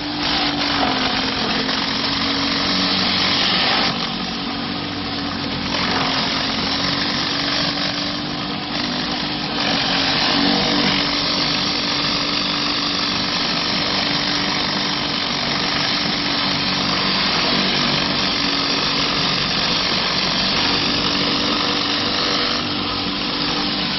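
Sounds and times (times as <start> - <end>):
high-pressure water hissing on concrete: 0.0 - 23.9
pressure washer pump humming: 0.0 - 23.9.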